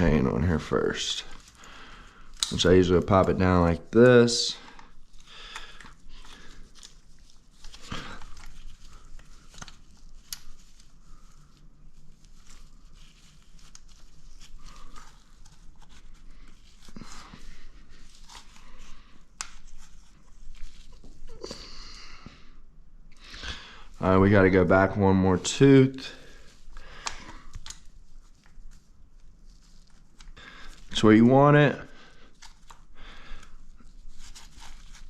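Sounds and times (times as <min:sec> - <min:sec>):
rustle of handling: 0:00.0 - 0:21.5, 0:23.8 - 0:35.0.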